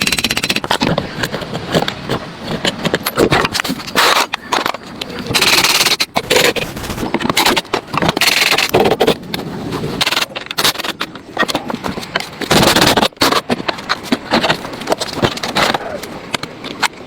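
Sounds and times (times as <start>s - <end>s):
rough scraping and knocking: 0.0s - 17.0s.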